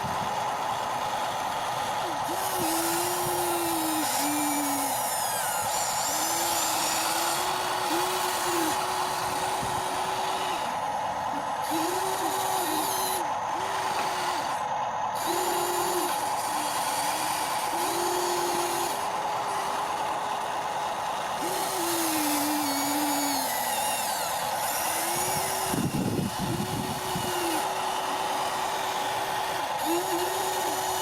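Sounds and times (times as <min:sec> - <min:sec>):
small electric gear motors whirring: 0:00.0 - 0:31.0
steady whine: 0:00.0 - 0:31.0.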